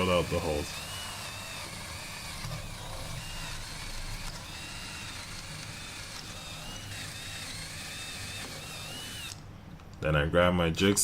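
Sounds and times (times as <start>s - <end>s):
power drill drilling through plywood: 0.0s - 9.4s.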